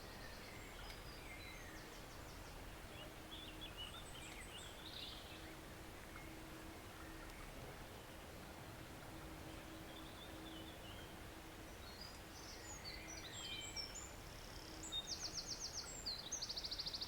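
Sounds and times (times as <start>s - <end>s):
songbirds chirping: 0.0s - 17.0s
stream rushing: 0.0s - 17.0s.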